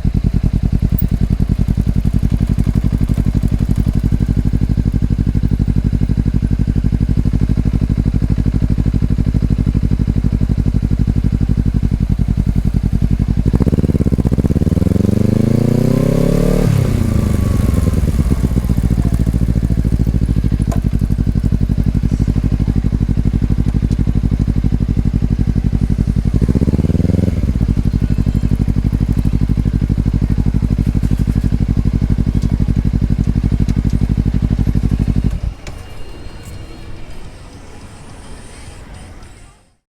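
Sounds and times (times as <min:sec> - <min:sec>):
motorcycle engine revving: 0:00.0 - 0:36.1.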